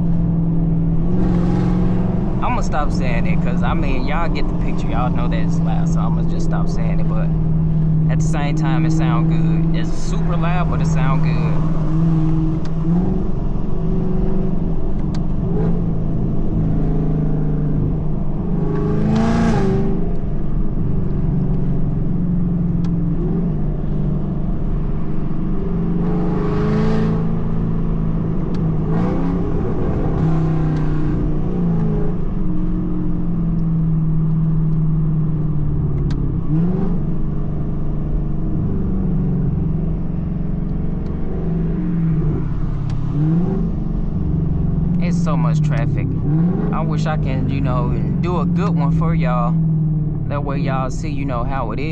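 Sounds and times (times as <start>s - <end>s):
car exhaust drone: 0.0s - 51.9s.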